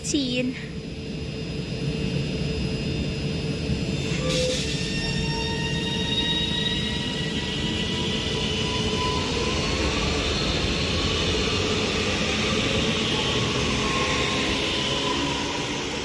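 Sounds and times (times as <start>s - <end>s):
traction motor whine: 0.8s - 16.0s.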